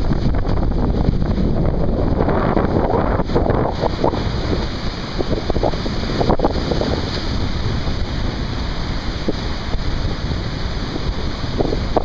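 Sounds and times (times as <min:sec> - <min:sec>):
surf breaking and waves: 0:00.0 - 0:12.0
wind buffeting microphone: 0:00.0 - 0:12.0.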